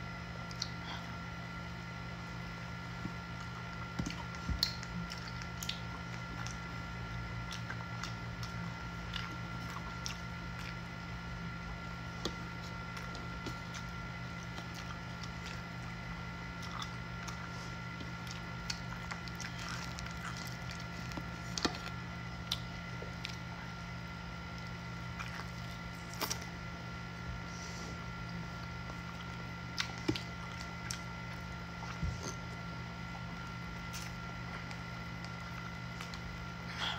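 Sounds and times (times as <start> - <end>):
steady hum: 0.0 - 36.9
wet chewing and smacking: 0.4 - 0.8, 2.6 - 27.3, 28.1 - 36.9.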